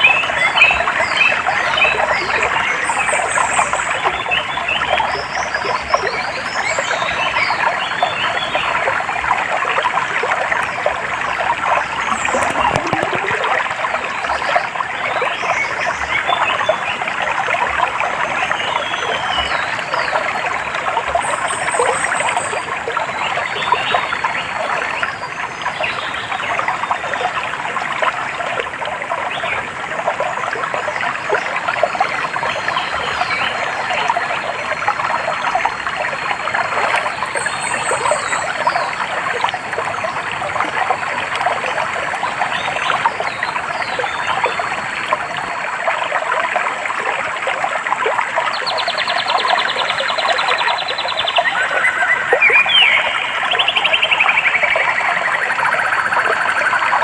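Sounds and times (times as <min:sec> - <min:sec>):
water trickling and babbling: 0:00.0 - 0:57.0.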